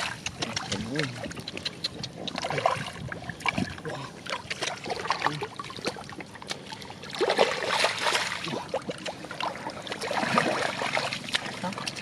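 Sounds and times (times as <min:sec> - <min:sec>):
slaps and squelches in mud: 0:00.0 - 0:03.7, 0:04.3 - 0:09.2, 0:09.9 - 0:12.0
splashing in muddy water: 0:00.0 - 0:12.0.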